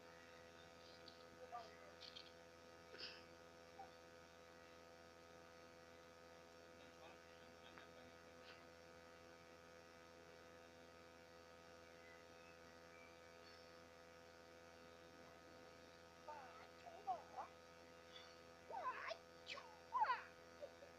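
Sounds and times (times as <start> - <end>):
electrical hum with buzz: 0.0 - 20.9.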